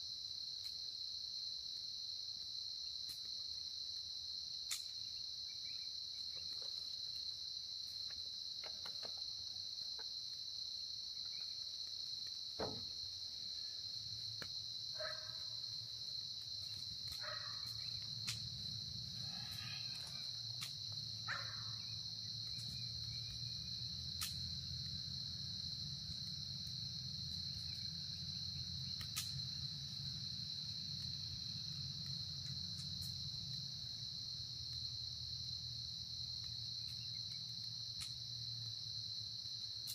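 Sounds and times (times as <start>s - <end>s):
crickets chirping: 0.0s - 39.9s
campfire crackling: 0.1s - 39.9s.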